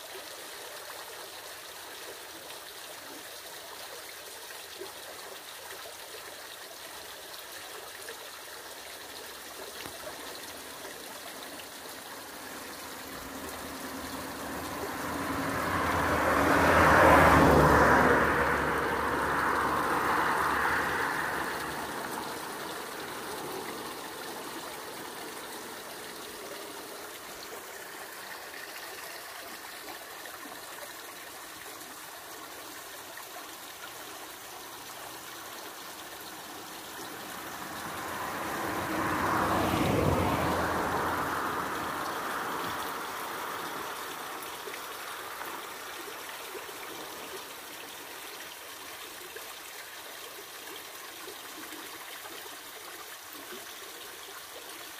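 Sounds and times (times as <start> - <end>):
river rushing over rocks: 9.1 - 53.5.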